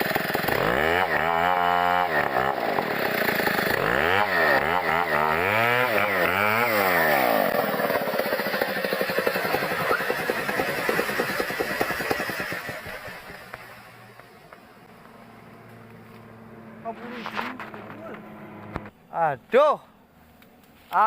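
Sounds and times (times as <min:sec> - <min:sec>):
chainsaw running: 0:00.0 - 0:16.9.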